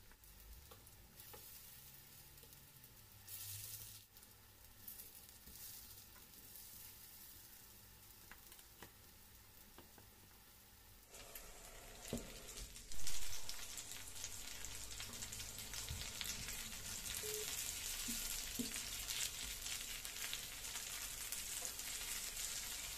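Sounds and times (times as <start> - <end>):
fritters sizzling in oil: 0.0 - 22.9.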